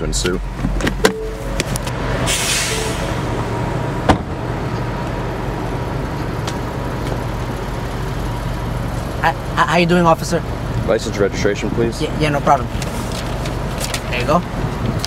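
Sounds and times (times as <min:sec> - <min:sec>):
car engine idling: 0:02.8 - 0:15.0.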